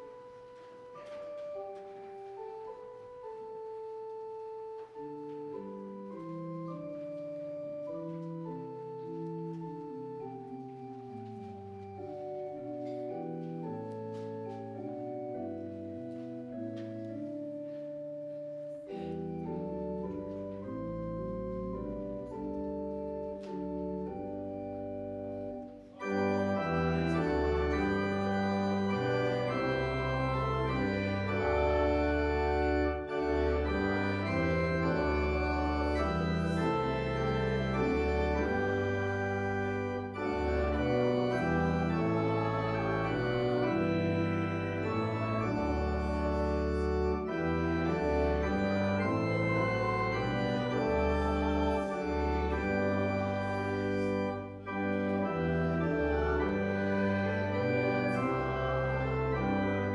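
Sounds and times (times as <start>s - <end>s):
church organ playing a hymn: 0.0s - 59.9s.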